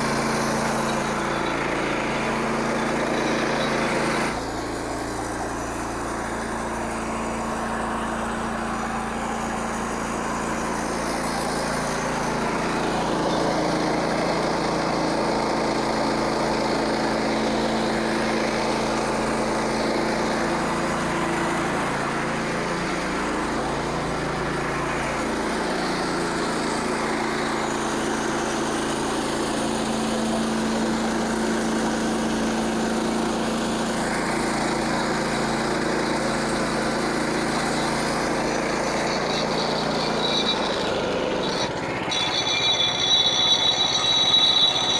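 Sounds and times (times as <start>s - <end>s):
small gasoline engine running: 0.0s - 44.9s.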